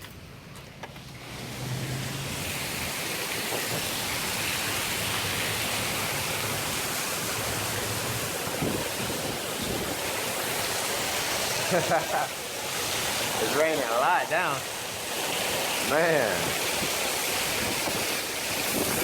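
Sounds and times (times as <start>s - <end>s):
heavy rain pouring: 1.2s - 19.0s.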